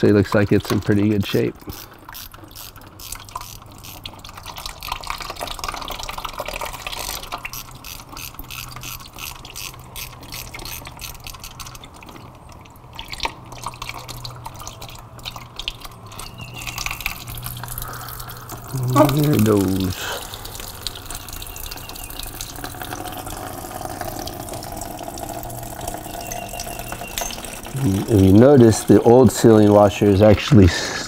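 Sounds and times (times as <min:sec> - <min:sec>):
coolant dripping into drain pan: 0:00.0 - 0:30.1.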